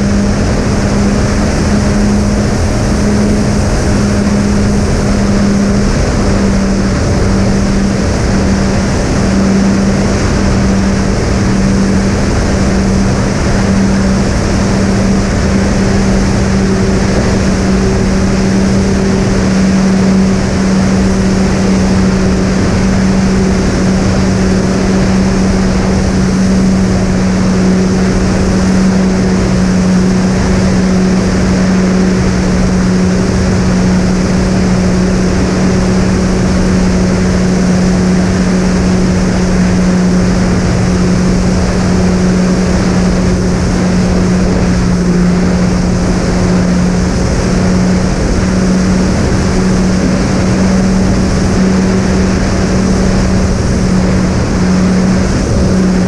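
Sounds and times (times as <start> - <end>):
electric motors humming: 0.0 - 56.0
propeller noise rushing: 0.0 - 56.0.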